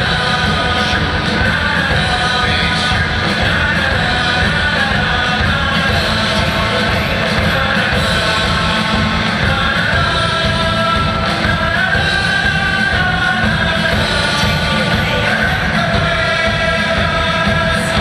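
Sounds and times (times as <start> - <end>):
music with singing over loudspeakers: 0.0 - 18.0.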